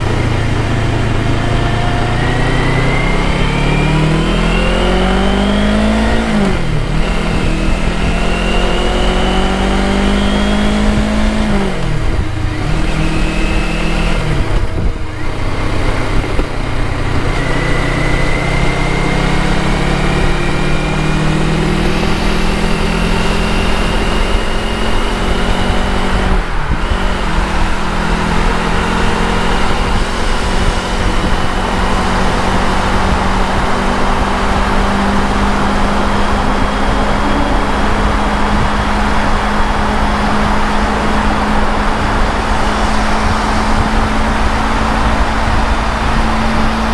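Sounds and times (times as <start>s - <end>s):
motorcycle engine accelerating: 0.0s - 46.9s
wind and road noise: 0.0s - 46.9s.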